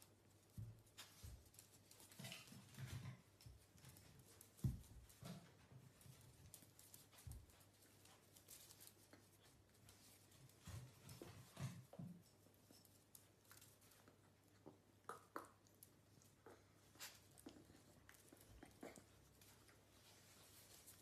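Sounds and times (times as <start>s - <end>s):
puppy claws tapping on tiles: 0.1s - 19.9s.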